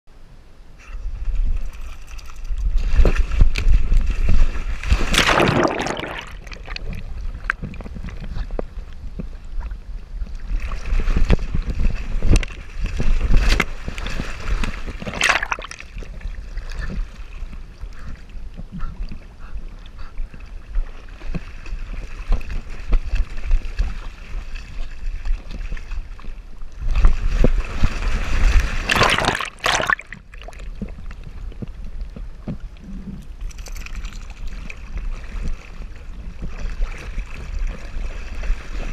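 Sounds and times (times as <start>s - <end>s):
wind rumble on microphone: 0.1s - 29.0s, 30.0s - 38.9s.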